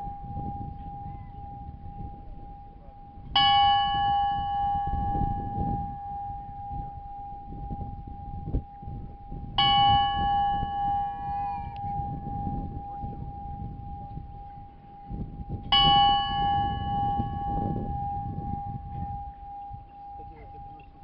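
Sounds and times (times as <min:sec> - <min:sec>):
bell ringing: 0:00.0 - 0:21.0.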